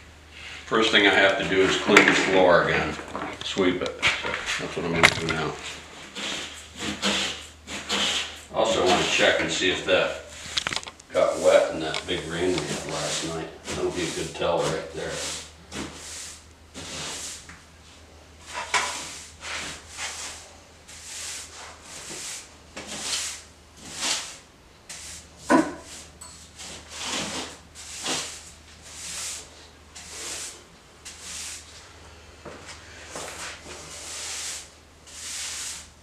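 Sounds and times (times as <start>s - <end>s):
broom bristles sweeping floor: 4.0s - 36.0s.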